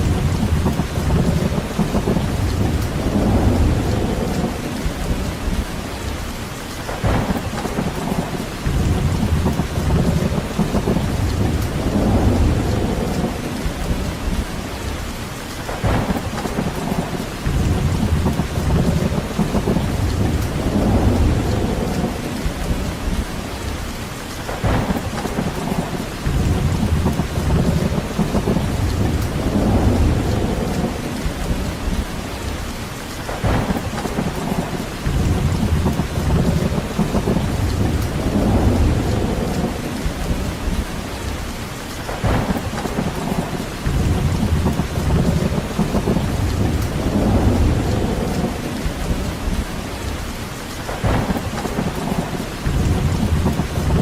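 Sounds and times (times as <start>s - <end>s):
steady rain: 0.0s - 54.0s
wind rumble: 0.0s - 54.0s.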